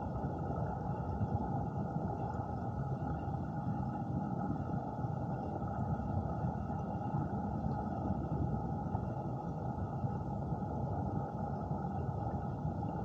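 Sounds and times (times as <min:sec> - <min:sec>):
muffled underwater water rush: 0:00.0 - 0:13.0.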